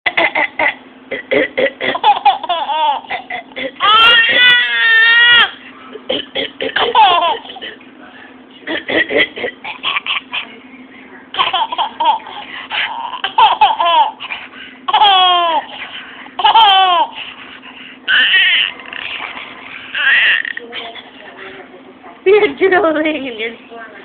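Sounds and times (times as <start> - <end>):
baby laughing: 0.1 - 7.8, 8.7 - 10.5, 11.3 - 21.1.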